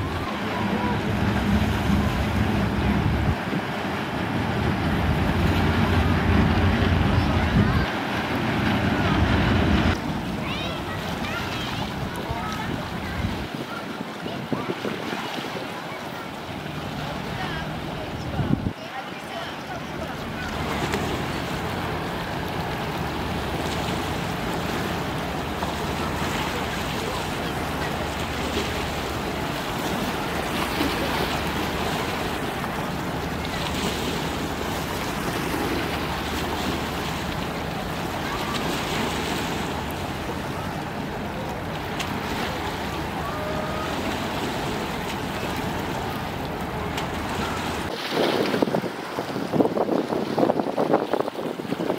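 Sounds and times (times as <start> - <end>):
wind buffeting microphone: 0.0 - 15.9, 16.7 - 18.8, 20.2 - 51.9
drone of boat engines: 0.0 - 50.4
water washing against shore: 0.0 - 51.9.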